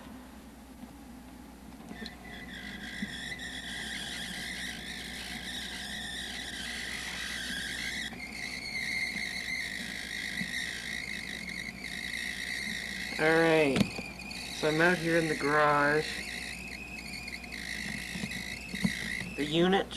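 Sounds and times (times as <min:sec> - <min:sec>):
camcorder high-pitched squeal: 0:01.9 - 0:19.9.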